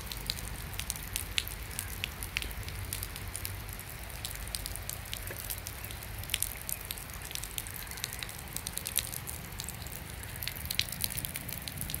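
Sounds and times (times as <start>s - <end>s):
rain falling on river: 0.0s - 12.0s
raindrop ticks and splats: 0.0s - 12.0s.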